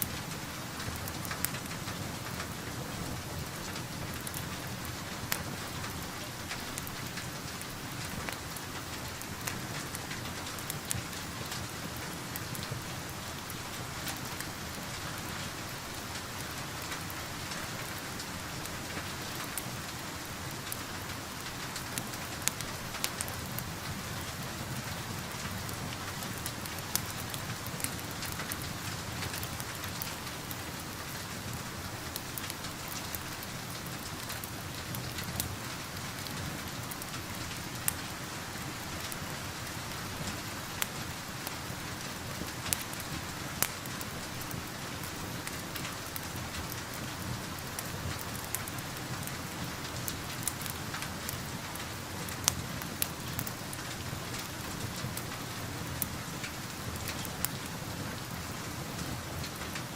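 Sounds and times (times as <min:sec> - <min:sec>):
steady rain: 0:00.0 - 0:59.9
wood fire crackling and popping: 0:00.0 - 0:59.9.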